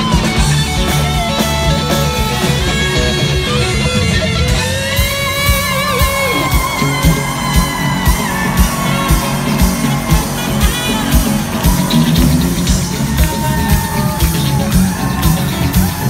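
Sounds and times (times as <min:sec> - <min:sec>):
electric guitar lead: 0:00.0 - 0:16.0
live rock band playing: 0:00.0 - 0:16.0.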